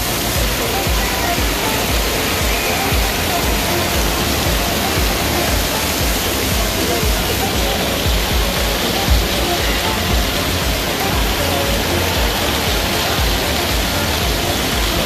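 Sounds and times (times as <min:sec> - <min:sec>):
faint music: 0:00.0 - 0:15.0
faint voices: 0:00.0 - 0:15.0
water rushing and splashing: 0:00.0 - 0:15.0.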